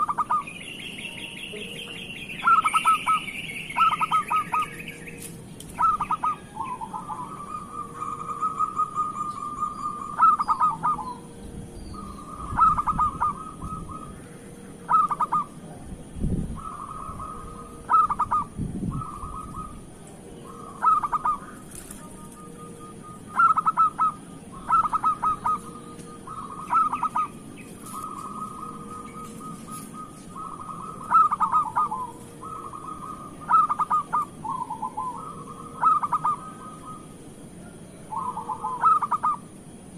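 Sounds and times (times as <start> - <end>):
dove cooing: 0.0 - 39.6.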